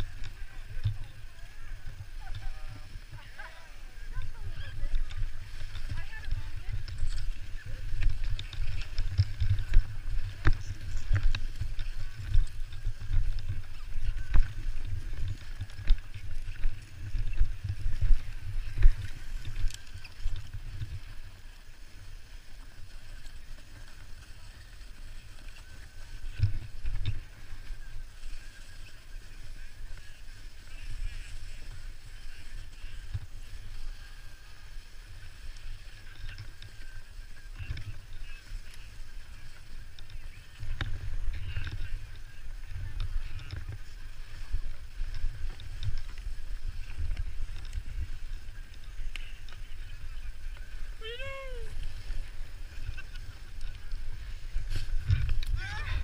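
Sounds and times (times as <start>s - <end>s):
person sliding over snow: 0.0s - 56.0s.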